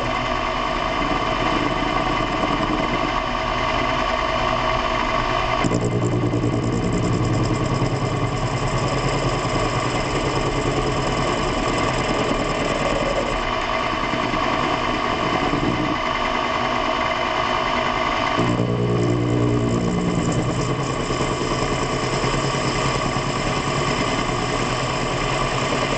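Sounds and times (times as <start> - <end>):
machine tool humming: 0.0 - 25.9.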